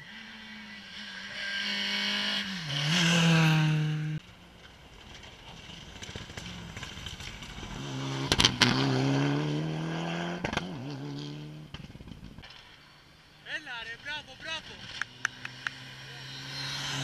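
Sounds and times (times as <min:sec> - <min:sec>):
rally car engine at high revs: 0:00.0 - 0:04.2, 0:06.0 - 0:12.6, 0:14.1 - 0:17.0.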